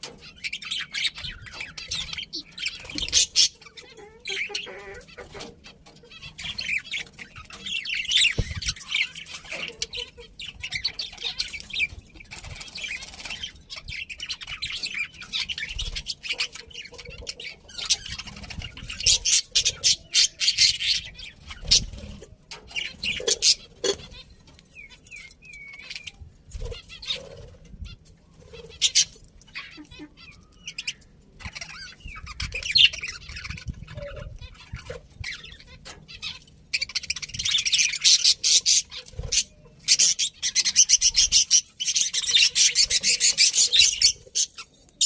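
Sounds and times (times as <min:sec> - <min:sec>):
budgerigars chirping: 0:00.0 - 0:44.7.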